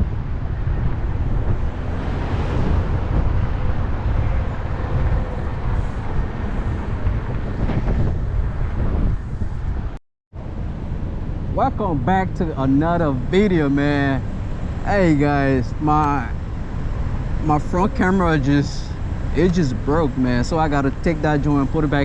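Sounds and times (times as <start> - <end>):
moving vehicle rumble: 0.0 - 22.0
wind buffeting microphone: 0.0 - 22.0.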